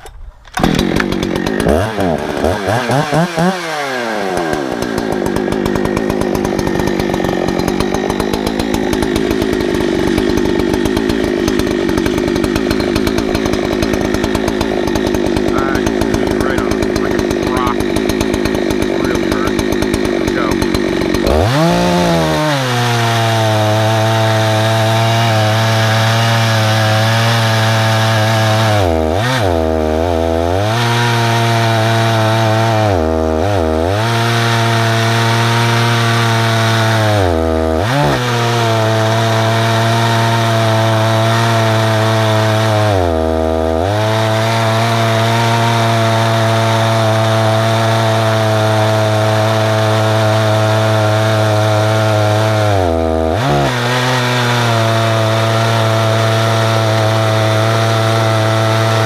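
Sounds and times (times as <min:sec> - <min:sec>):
chainsaw cutting through wood: 0:00.0 - 0:59.0.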